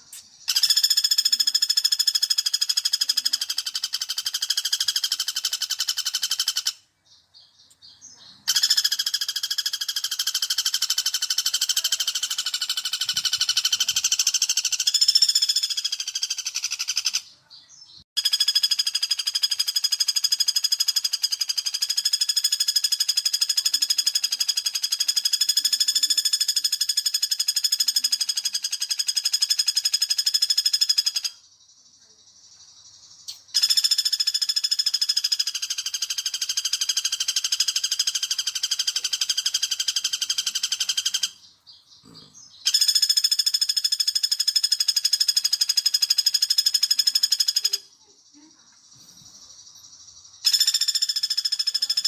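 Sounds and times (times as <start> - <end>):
woodpecker rattling trill: 0.0 - 17.3, 18.2 - 31.8, 32.4 - 52.0.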